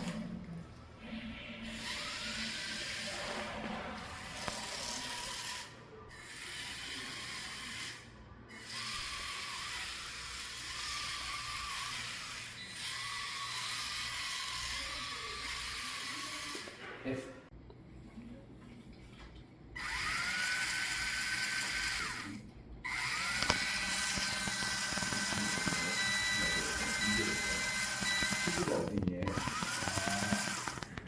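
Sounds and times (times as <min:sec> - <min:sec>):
toy car motors whirring: 0:01.6 - 0:03.4, 0:04.2 - 0:16.8, 0:19.8 - 0:31.0.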